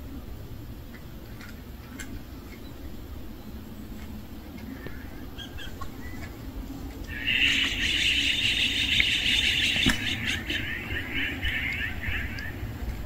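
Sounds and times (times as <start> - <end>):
birds chirping: 0.9 - 13.0.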